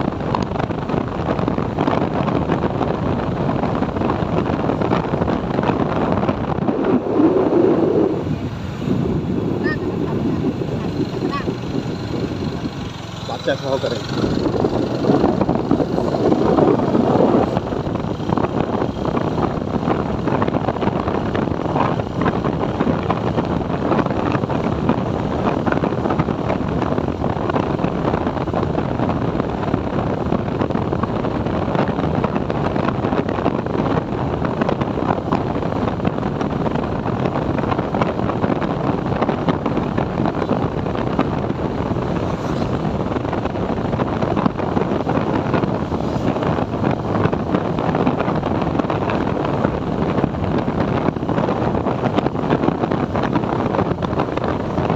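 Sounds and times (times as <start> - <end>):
motorcycle engine running: 0.0 - 54.9
road noise: 0.0 - 54.9
wind rush over microphone: 0.0 - 54.9.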